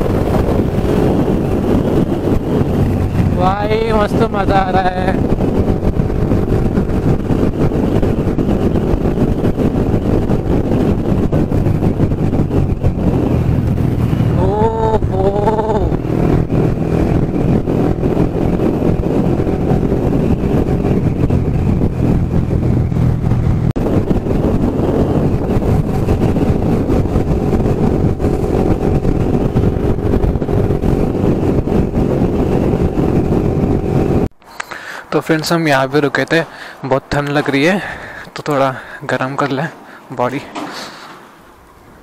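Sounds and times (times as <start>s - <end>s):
motorcycle engine running: 0.0s - 34.3s
road and wind rush: 0.0s - 42.0s.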